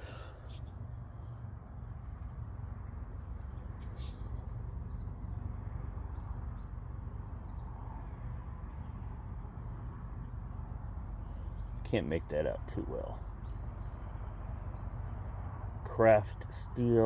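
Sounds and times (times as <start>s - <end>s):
high trill like crickets: 0.0s - 17.0s
steady low hum: 0.0s - 17.0s.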